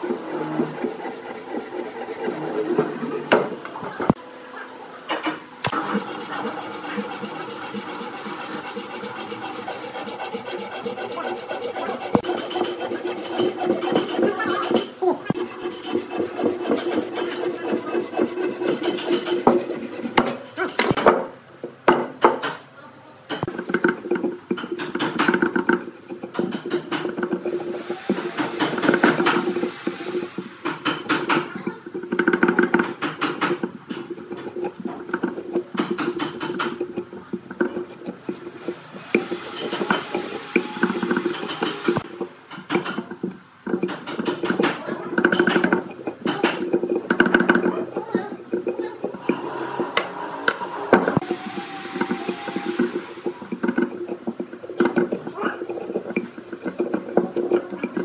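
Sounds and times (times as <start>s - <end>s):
hand saw cutting through log: 0.0s - 3.3s, 5.7s - 20.4s, 23.5s - 31.6s, 32.9s - 42.2s, 44.0s - 58.0s.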